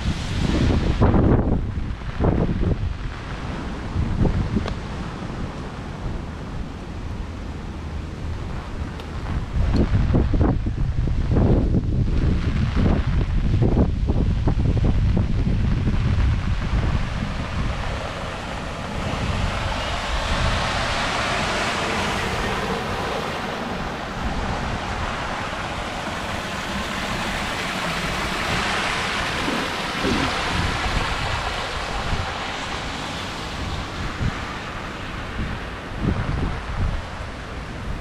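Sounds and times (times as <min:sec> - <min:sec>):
gusty wind buffeting microphone: 0:00.0 - 0:38.0.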